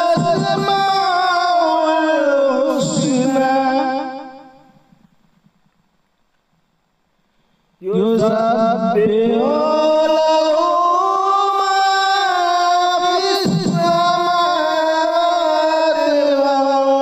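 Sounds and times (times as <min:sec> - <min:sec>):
person singing chant-like melody: 0:00.0 - 0:04.9, 0:07.8 - 0:17.0.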